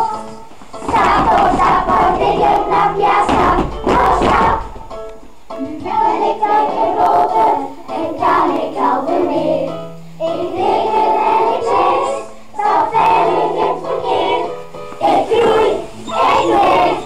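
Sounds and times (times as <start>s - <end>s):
accompanying music: 0.0s - 17.0s
children singing in unison: 0.8s - 4.8s, 5.6s - 17.0s.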